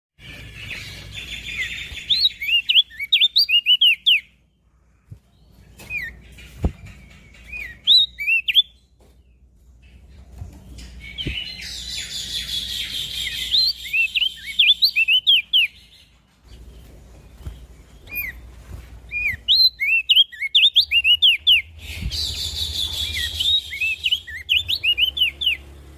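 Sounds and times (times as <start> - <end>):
bird chirping rapidly: 0.2 - 4.6, 5.4 - 25.9.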